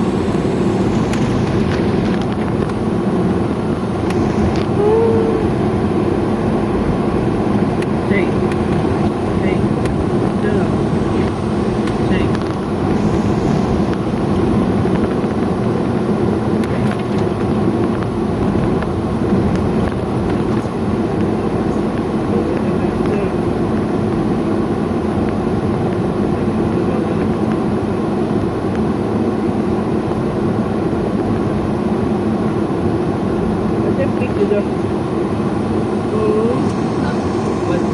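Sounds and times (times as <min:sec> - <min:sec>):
vehicle engine and road noise: 0:00.0 - 0:37.9.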